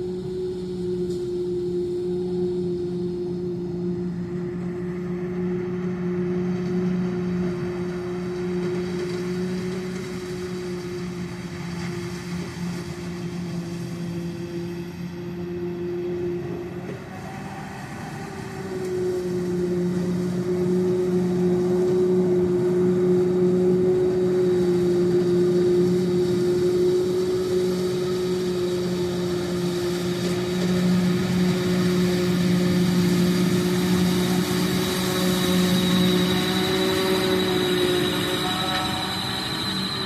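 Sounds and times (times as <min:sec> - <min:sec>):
harvest machinery engine drone: 0:00.0 - 0:40.0.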